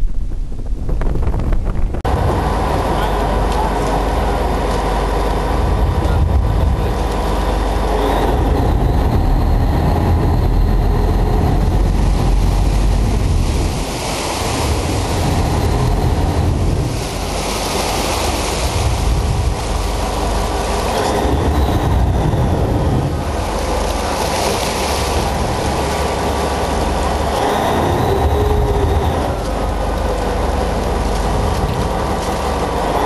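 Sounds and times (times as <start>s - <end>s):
boat engine running: 0.0s - 33.0s
water rushing along hull: 0.0s - 33.0s
wind buffeting microphone: 0.0s - 33.0s.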